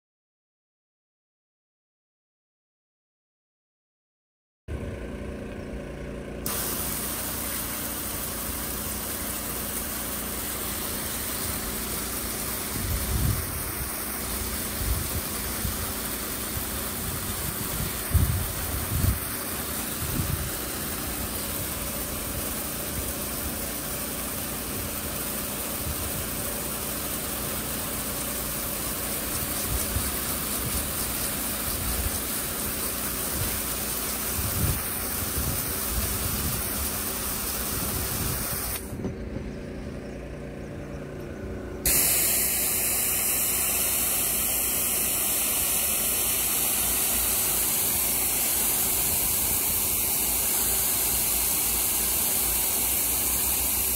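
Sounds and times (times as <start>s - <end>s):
steady mechanical hum: 4.7s - 53.9s
spray gun hissing: 6.4s - 39.0s, 41.8s - 53.9s.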